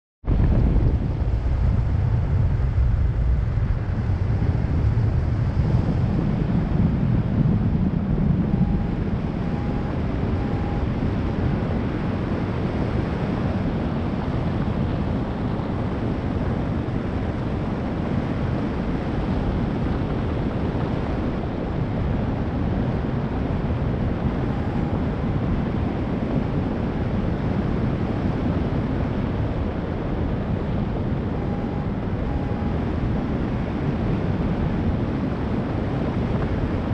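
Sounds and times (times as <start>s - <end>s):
wind buffeting microphone: 0.2s - 36.9s.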